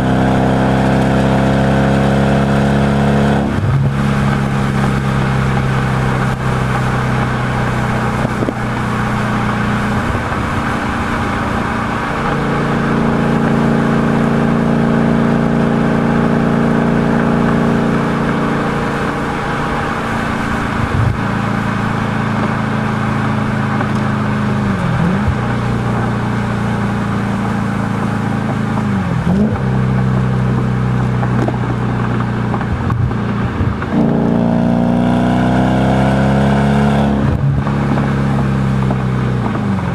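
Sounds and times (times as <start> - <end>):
car engine exhaust note: 0.0 - 39.9.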